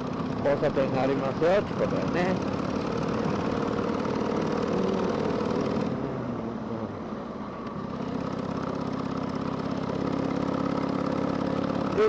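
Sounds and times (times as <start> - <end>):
motorcycle engine running: 0.0 - 6.0, 7.9 - 12.0.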